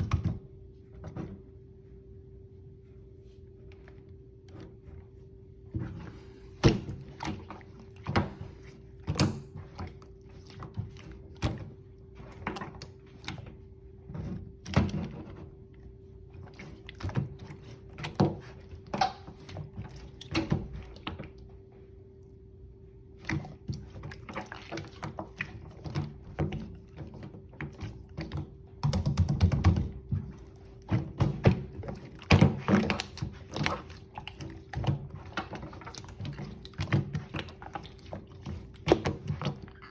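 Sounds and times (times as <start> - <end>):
faint steady hum: 0.0 - 39.9
slime squishing: 3.2 - 21.8, 22.9 - 39.9.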